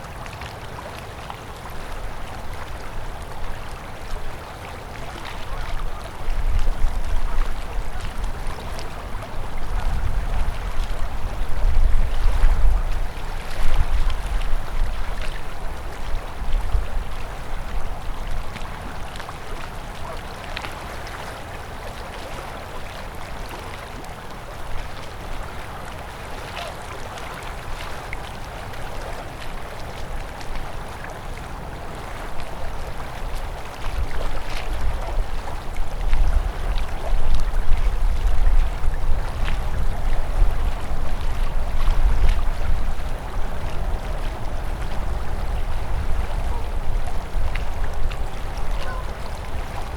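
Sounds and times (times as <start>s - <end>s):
river water flowing over rocks: 0.0s - 49.9s.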